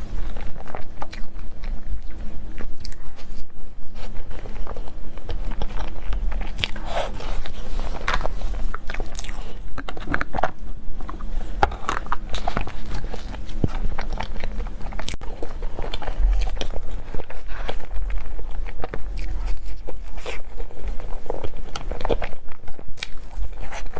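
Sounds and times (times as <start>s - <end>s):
person biting and chewing: 0.0s - 23.9s.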